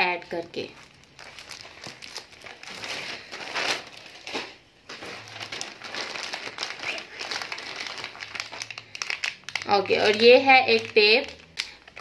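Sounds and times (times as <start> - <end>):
plastic bag rustling: 0.6 - 12.0.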